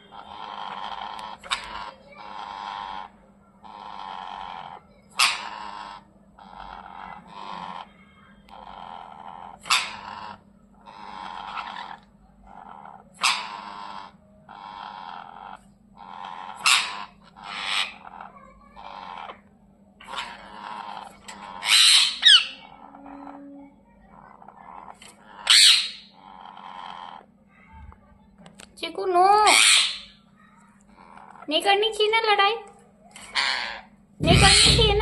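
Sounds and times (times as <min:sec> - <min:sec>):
parrot shrieking: 0:00.0 - 0:23.4, 0:24.0 - 0:27.3, 0:29.3 - 0:31.5, 0:33.2 - 0:35.0
parrots grumbling calls: 0:00.0 - 0:28.0, 0:28.6 - 0:31.8, 0:33.1 - 0:35.0.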